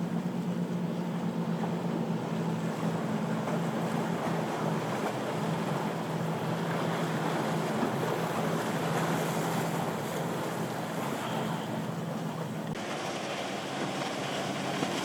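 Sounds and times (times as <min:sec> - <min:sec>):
boat motors humming: 0:00.0 - 0:15.0
waves rushing: 0:00.0 - 0:15.0.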